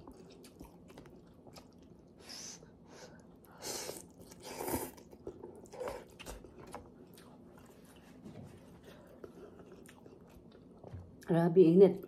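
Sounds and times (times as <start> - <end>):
chewing noodles: 0.0 - 11.2.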